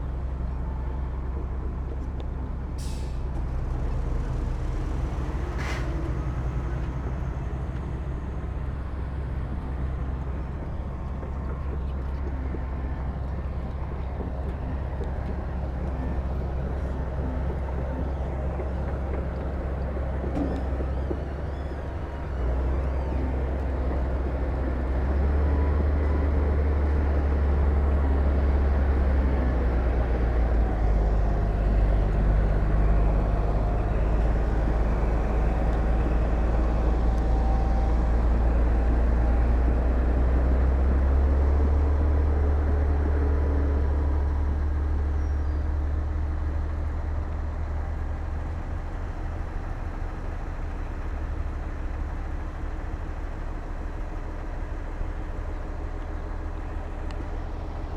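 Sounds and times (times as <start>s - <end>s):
heavy diesel machinery rumbling: 0.0s - 57.9s.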